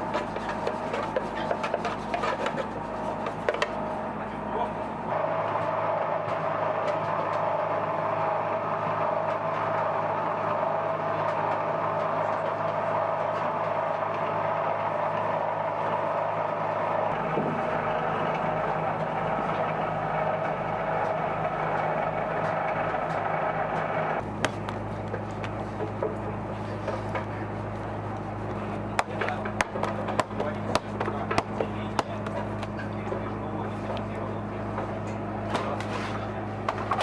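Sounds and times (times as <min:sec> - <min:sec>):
machinery droning with tones: 0:00.0 - 0:37.0
deep hum: 0:02.7 - 0:37.0.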